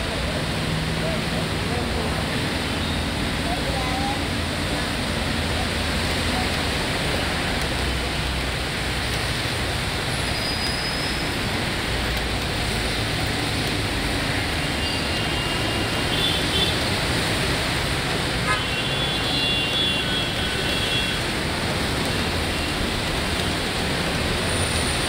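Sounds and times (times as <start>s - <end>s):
tyres hissing through water: 0.4s - 25.0s.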